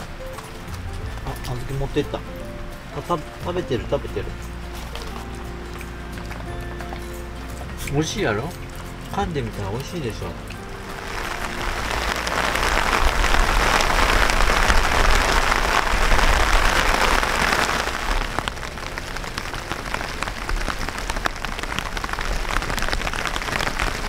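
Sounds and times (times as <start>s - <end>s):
heavy rain with drops ticking: 0.0s - 24.0s.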